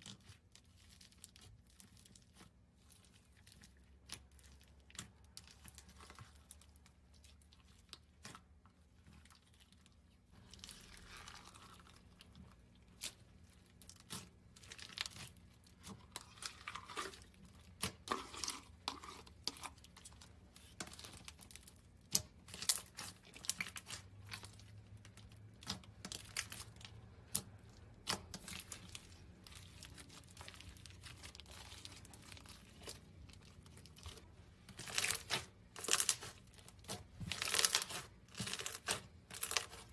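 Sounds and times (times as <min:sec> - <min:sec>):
slime squishing and crackling: 0:00.0 - 0:39.9.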